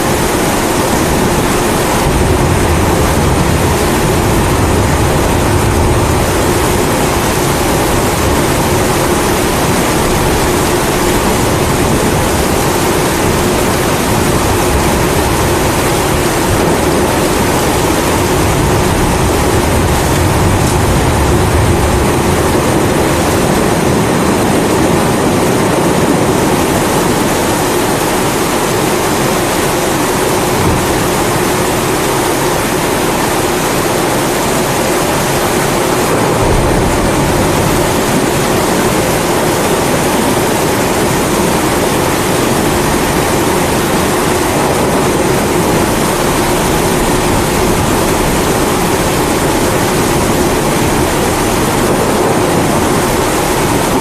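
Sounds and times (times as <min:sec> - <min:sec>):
steady rain: 0:00.0 - 0:54.0
low rumbles of thunder: 0:00.1 - 0:26.2, 0:30.4 - 0:32.2, 0:35.3 - 0:41.9, 0:42.7 - 0:54.0.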